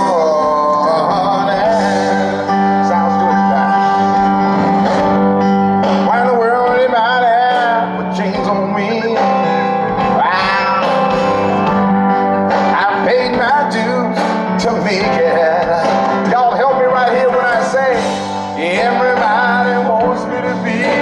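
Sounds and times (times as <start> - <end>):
man singing lead: 0.0 - 4.8, 5.9 - 11.9, 12.5 - 21.0
live pop band music: 0.0 - 21.0.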